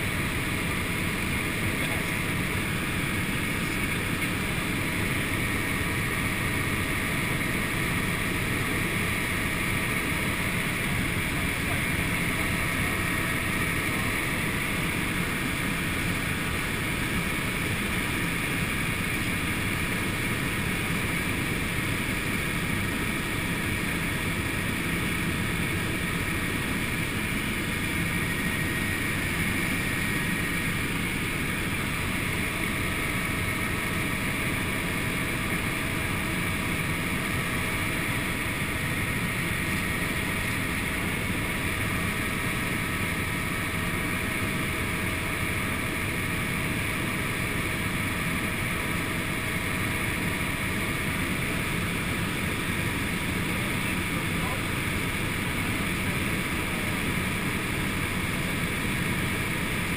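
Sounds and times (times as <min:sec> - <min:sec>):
faint high whine: 0:00.0 - 0:59.9
helicopter engine and rotor drone: 0:00.0 - 0:59.9.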